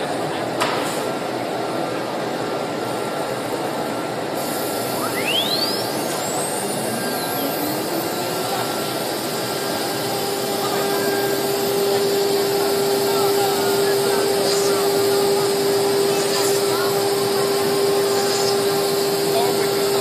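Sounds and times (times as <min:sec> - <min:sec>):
noisy hall din: 0:00.0 - 0:20.0
router spindle whine: 0:02.5 - 0:20.0.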